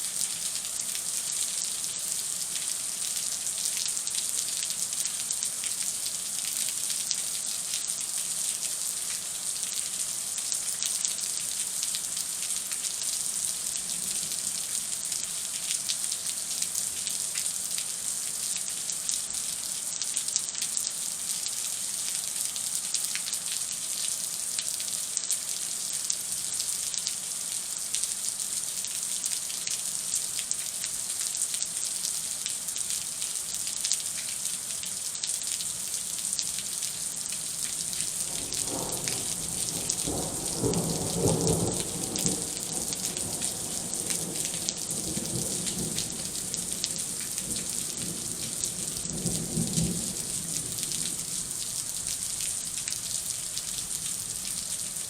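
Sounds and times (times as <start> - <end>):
heavy rain hitting ground: 0.0 - 55.0.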